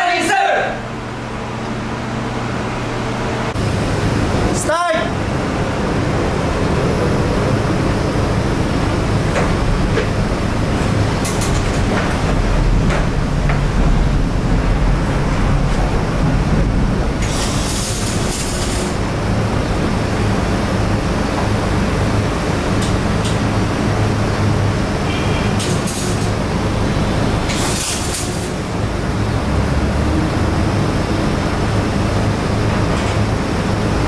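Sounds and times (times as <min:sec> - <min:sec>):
machine hum and fan rush: 0:00.0 - 0:34.0.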